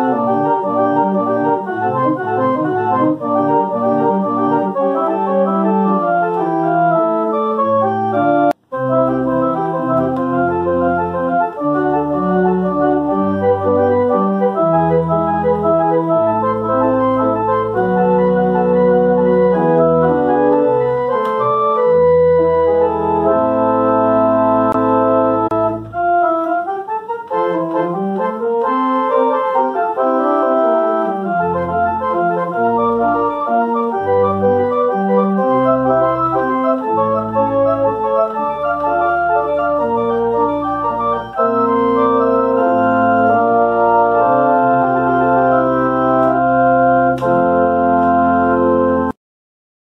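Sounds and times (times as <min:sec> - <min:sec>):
church organ playing chords: 0:00.0 - 0:49.2.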